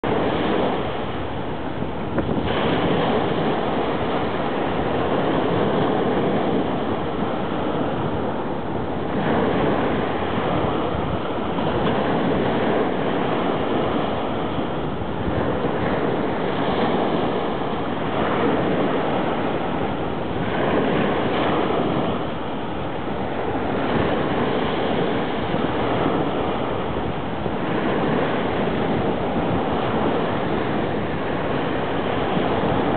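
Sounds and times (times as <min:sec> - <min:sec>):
waves rushing: 0:00.0 - 0:32.9
wind on microphone: 0:00.0 - 0:32.9.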